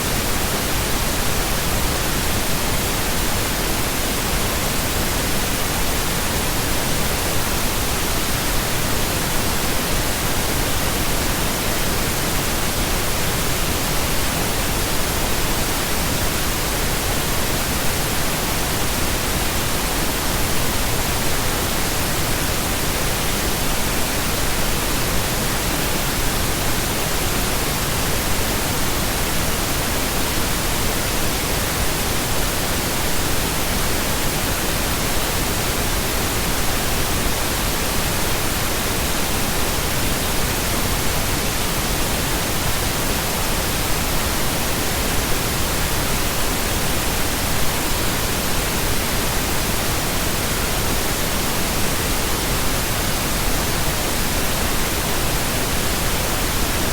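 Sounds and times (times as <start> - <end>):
pink noise hiss: 0.0 - 56.9.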